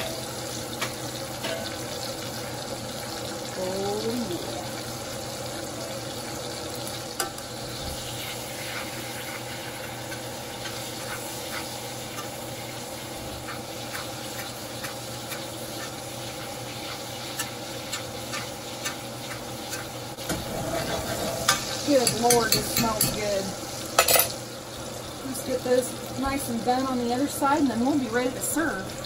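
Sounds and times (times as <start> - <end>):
steaks sizzling in butter: 0.0 - 29.0.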